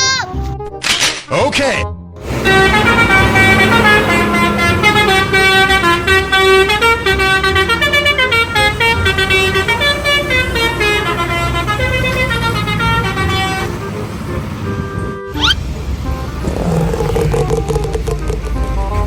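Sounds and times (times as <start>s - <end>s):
multi-tone bus horn melody: 2.2s - 19.0s.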